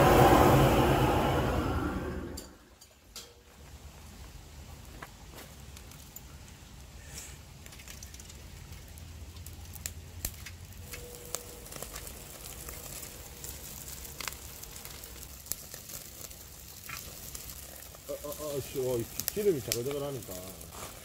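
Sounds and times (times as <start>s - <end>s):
charcoal fire crackling and popping: 0.0s - 21.0s.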